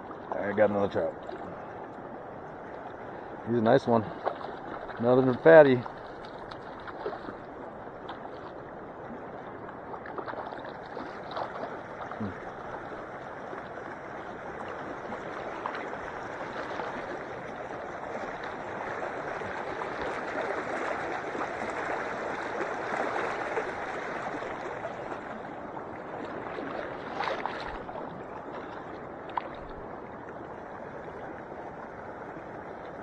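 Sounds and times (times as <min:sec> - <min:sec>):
water lapping at the shore: 0:00.0 - 0:33.0.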